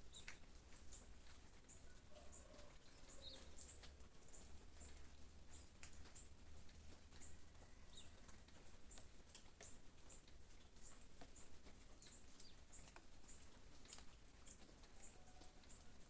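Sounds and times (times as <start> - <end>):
faint rain patter: 0.0 - 16.0
water drips: 0.0 - 16.0
small bird chirping: 0.1 - 6.4, 7.1 - 8.2, 8.8 - 16.0.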